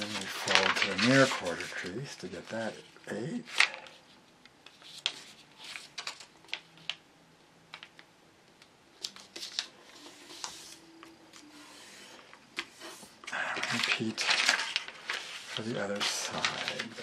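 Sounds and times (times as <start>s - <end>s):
paper folding rustles: 0.0s - 7.0s, 9.0s - 17.0s.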